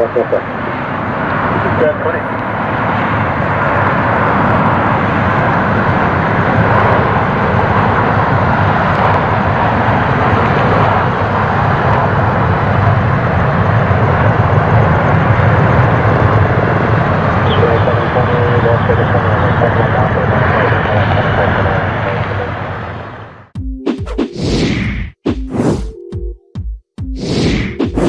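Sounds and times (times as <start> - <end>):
jet engines roaring: 0.0 - 23.4.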